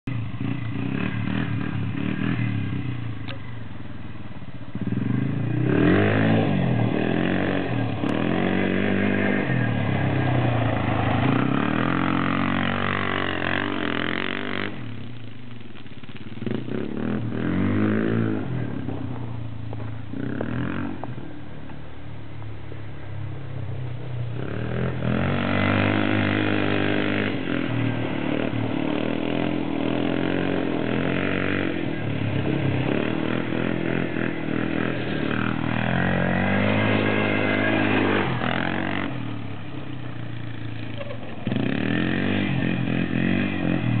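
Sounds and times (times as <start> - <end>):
quad bike engine revving: 0.0 - 3.7, 4.7 - 21.8, 24.3 - 44.0.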